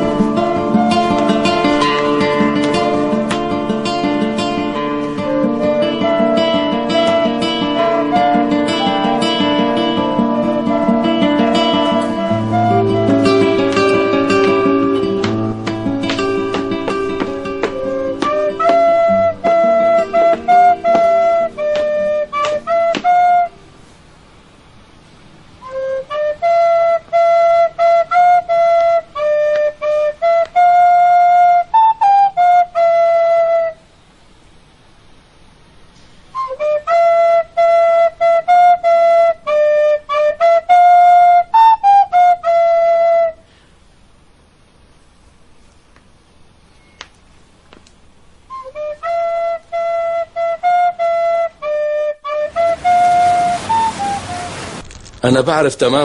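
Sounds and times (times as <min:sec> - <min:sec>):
recorder playing a simple tune: 0:00.0 - 0:23.6, 0:25.6 - 0:33.8, 0:36.4 - 0:43.4, 0:48.5 - 0:54.6.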